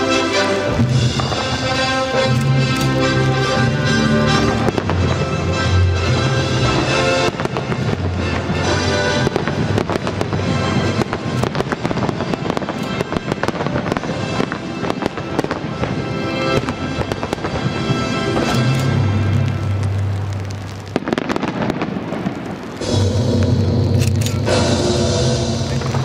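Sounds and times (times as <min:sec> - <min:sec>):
fireworks bangs and cracks: 0:00.0 - 0:26.0
music: 0:00.0 - 0:26.0.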